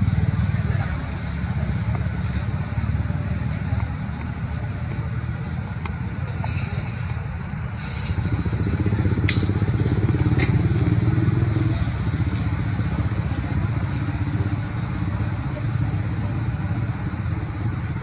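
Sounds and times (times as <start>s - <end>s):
motor engine low drone: 0.0s - 18.0s.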